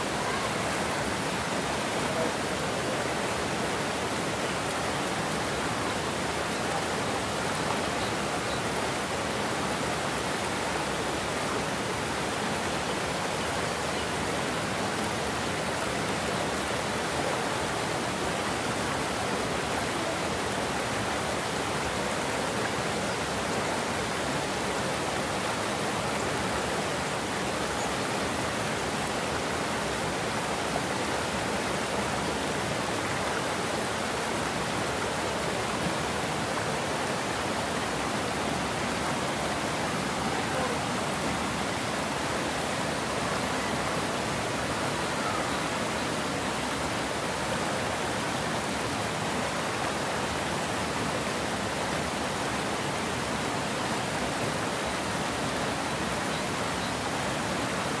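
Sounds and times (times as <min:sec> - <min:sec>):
water rushing over a dam: 0:00.0 - 0:58.0.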